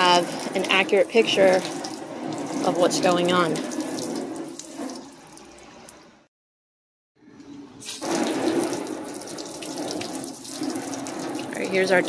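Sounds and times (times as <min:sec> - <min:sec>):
hose water spraying on car: 0:00.0 - 0:05.8, 0:07.8 - 0:12.0.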